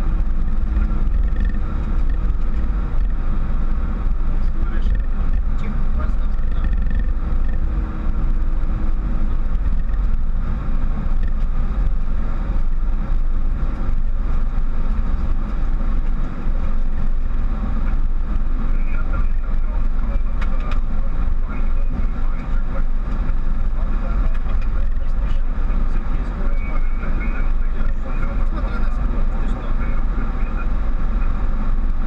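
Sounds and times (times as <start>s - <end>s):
aircraft engine and airflow rumble: 0.0s - 32.0s.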